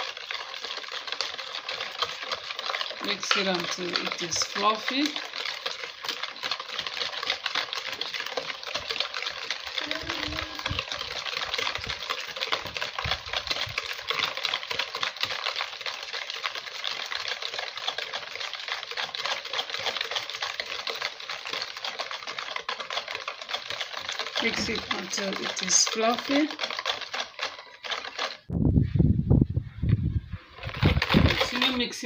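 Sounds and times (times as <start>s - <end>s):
batter splashing: 0.0s - 28.1s
whisk clicking against bowl: 0.0s - 28.4s, 31.0s - 32.0s.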